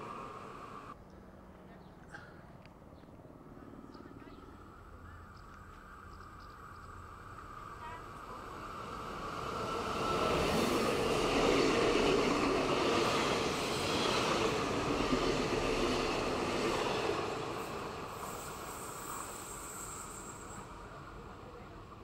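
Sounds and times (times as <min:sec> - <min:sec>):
electric train passing: 0:00.0 - 0:01.4, 0:03.2 - 0:22.0.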